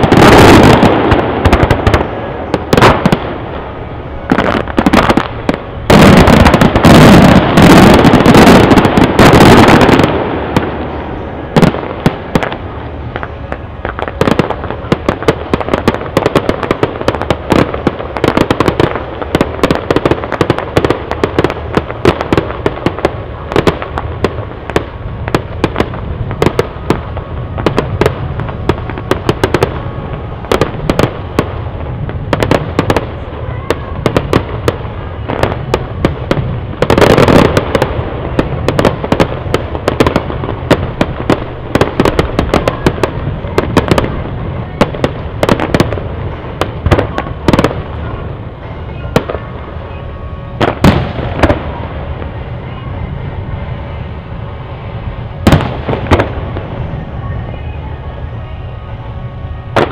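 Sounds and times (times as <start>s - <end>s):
fireworks bangs: 0.0s - 59.9s
fireworks crackling and popping: 0.0s - 59.9s.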